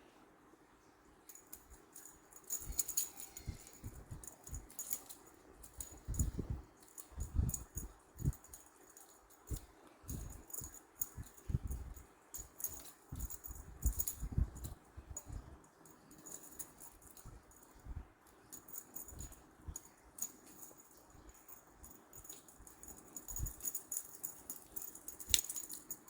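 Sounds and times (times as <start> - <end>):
jingling rattling clicks: 1.3 - 11.8, 12.4 - 17.6, 18.5 - 26.0.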